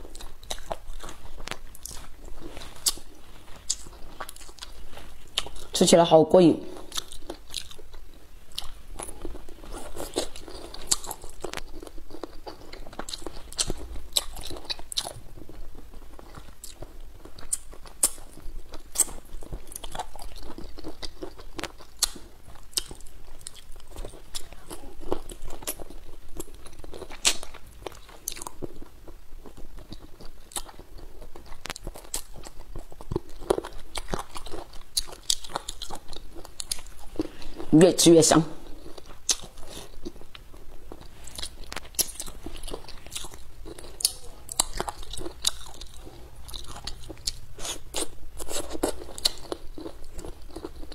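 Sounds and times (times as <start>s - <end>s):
person chewing and crunching: 0.0s - 5.9s, 6.6s - 50.9s.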